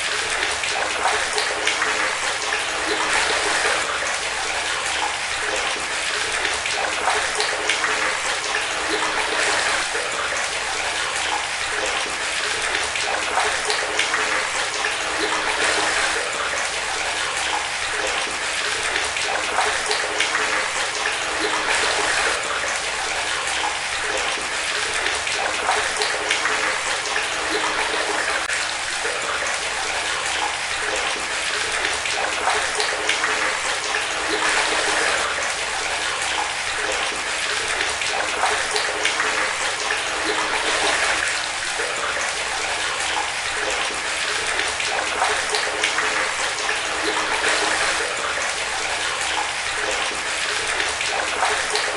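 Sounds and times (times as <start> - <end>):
tap water running: 0.0 - 51.9.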